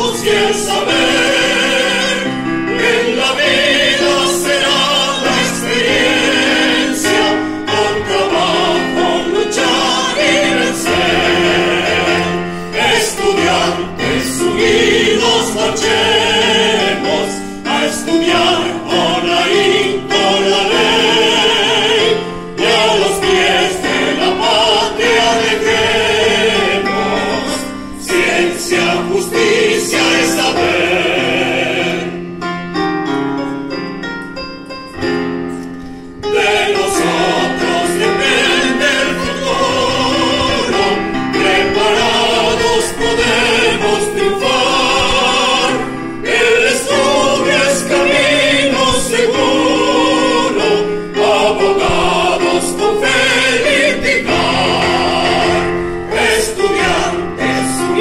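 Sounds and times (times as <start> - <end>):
choir singing a hymn: 0.0 - 32.9, 35.9 - 58.0
digital piano: 0.0 - 58.0.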